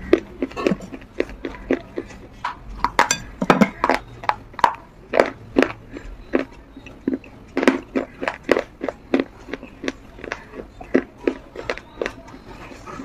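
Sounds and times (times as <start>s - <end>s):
crunching of clay bar being chewed: 0.0s - 13.0s.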